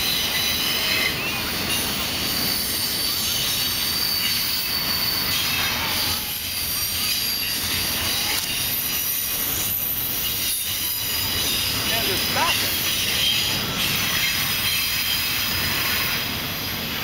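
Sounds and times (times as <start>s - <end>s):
wheel squeal: 0.0s - 16.3s
freight train rumbling past: 0.0s - 17.0s.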